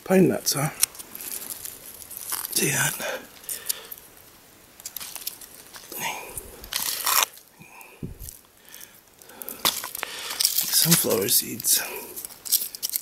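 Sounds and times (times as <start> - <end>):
pine cone scales crunching: 0.6 - 13.0.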